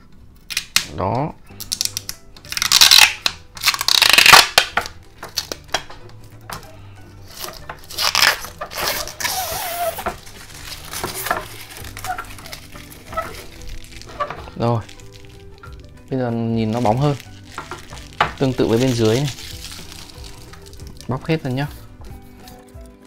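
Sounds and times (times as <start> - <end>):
plastic film peeled off: 1.6 - 5.7, 7.2 - 16.0, 16.6 - 22.8.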